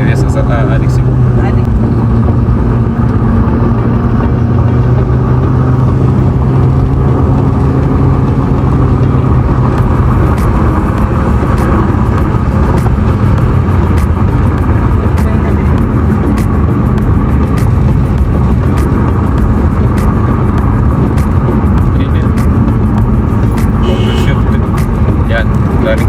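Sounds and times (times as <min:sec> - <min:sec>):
road noise: 0:00.0 - 0:26.0
vehicle engine running: 0:00.0 - 0:26.0.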